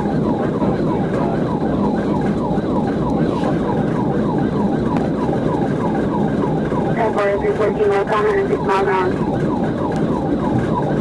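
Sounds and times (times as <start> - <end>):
police siren yelping: 0.0 - 11.0
road and engine noise: 0.0 - 11.0.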